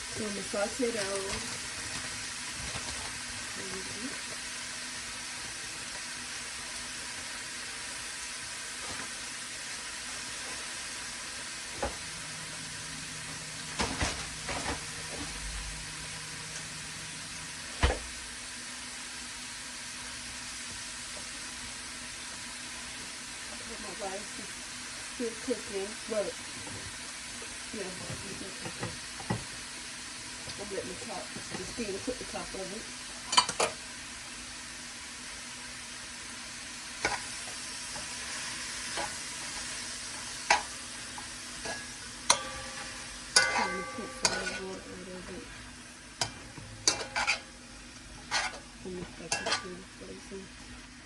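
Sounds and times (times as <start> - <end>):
vegetables sizzling in a pan: 0.0 - 51.0.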